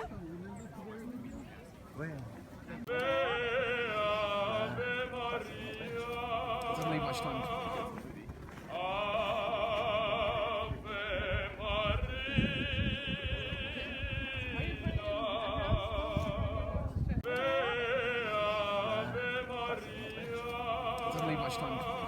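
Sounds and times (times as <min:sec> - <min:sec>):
operatic singing with vibrato: 0:02.9 - 0:08.0, 0:08.7 - 0:22.0.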